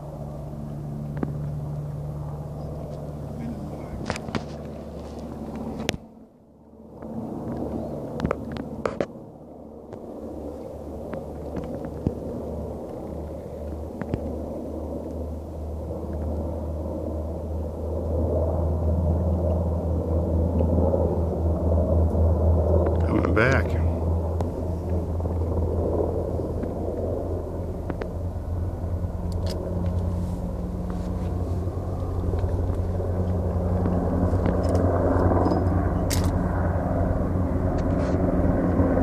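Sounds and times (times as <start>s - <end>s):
helicopter rotor drone: 0.0s - 39.0s.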